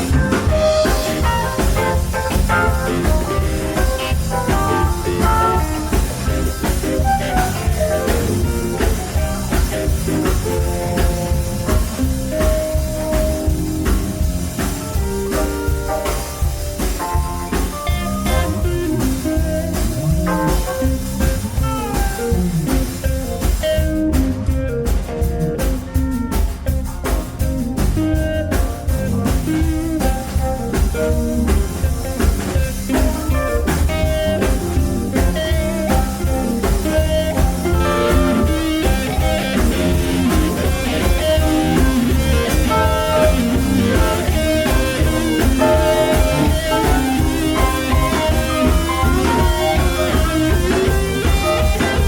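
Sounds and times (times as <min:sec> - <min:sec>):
bass guitar: 0:00.0 - 0:52.0
drum kit beat: 0:00.0 - 0:52.0
lead guitar: 0:00.0 - 0:52.0.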